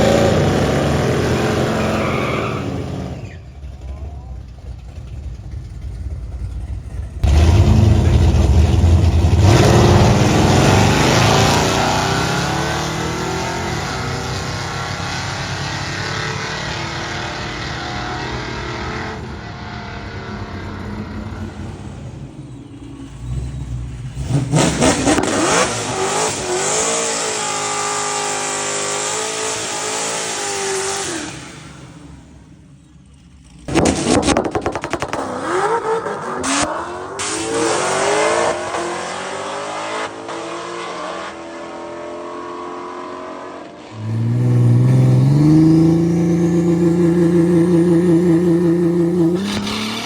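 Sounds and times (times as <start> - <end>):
drag car engine accelerating: 0.0 - 50.0.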